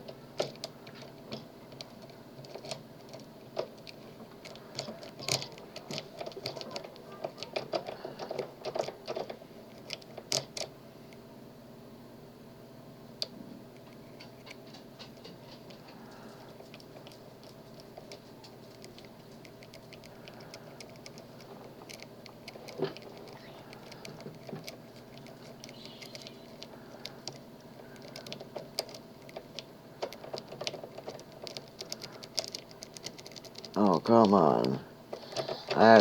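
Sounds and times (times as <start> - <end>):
lock pick clicking on pins: 0.4 - 10.7, 16.8 - 36.0.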